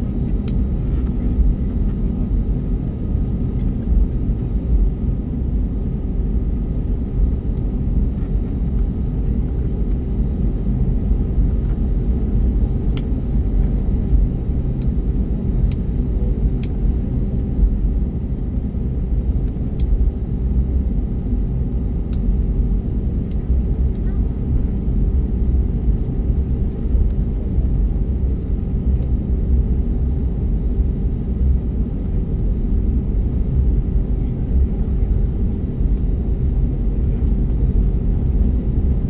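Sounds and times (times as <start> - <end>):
jet engine low rumble: 0.0 - 39.0
steady hum: 0.0 - 39.0.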